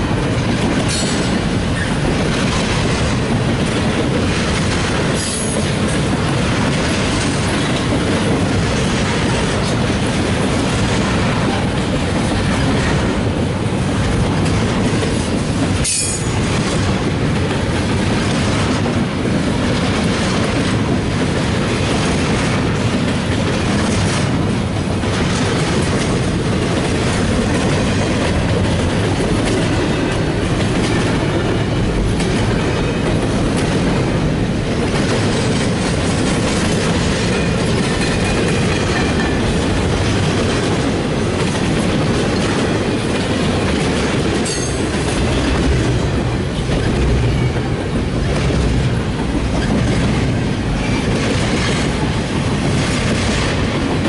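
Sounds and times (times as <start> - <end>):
freight train wheels clacking: 0.0 - 54.0.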